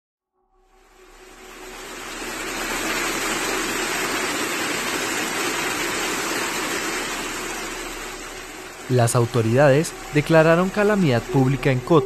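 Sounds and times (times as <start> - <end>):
water pouring through ceiling: 0.7 - 12.0
heavy rain drumming on roof: 0.9 - 12.0.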